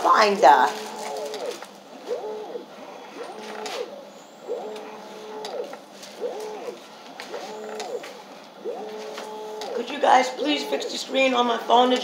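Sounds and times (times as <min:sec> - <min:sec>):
small motor whining: 0:00.8 - 0:12.0.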